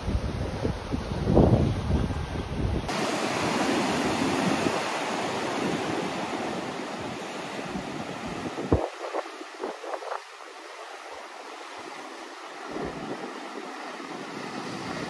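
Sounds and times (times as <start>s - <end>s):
wind on microphone: 0.0s - 15.0s
surf breaking against cliffs: 1.1s - 15.0s.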